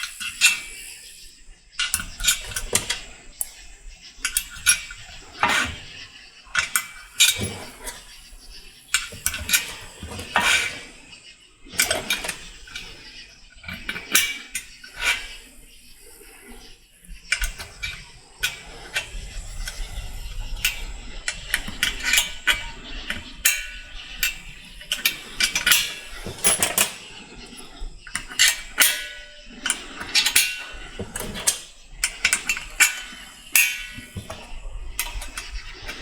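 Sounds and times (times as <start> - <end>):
metal parts clicking and clinking: 0.0 - 11.0, 11.7 - 15.9, 17.0 - 36.0.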